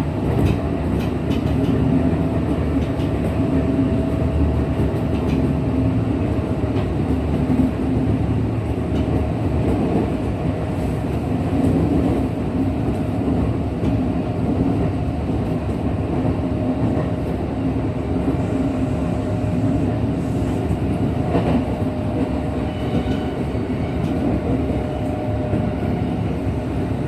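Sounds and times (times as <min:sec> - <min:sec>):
train hum: 0:00.0 - 0:27.0
train wheels rumbling: 0:00.0 - 0:27.0.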